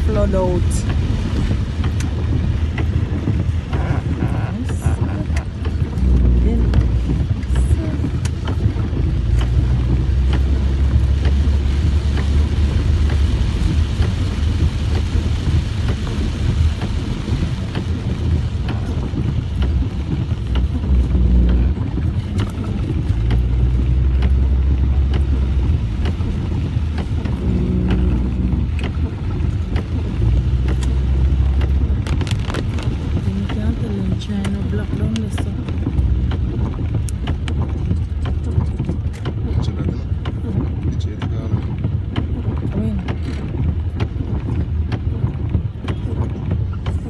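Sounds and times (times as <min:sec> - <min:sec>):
car driving rumble: 0:00.0 - 0:47.0
wind buffeting microphone: 0:00.0 - 0:47.0.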